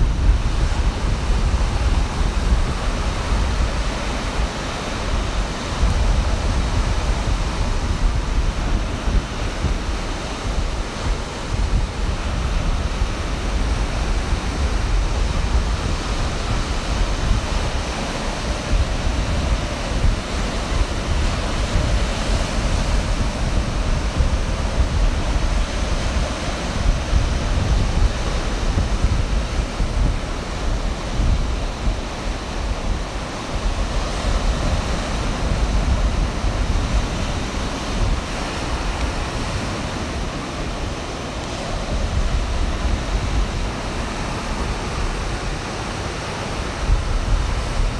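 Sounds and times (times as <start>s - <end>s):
ocean surf breaking: 0.0s - 47.9s
wind buffeting microphone: 0.0s - 47.9s.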